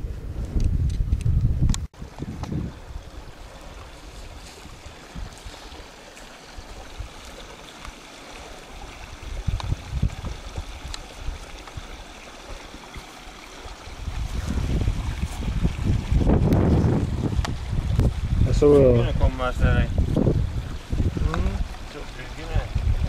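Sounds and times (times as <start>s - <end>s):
wind gusting on microphone: 0.0s - 7.5s, 8.7s - 23.0s
stream trickling: 2.0s - 23.0s.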